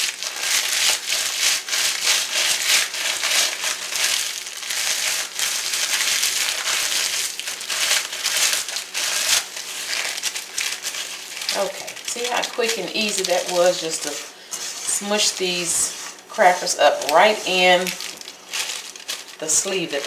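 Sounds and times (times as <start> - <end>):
crackers crunching: 0.0 - 20.0
plastic wrapper crinkling: 0.0 - 20.0.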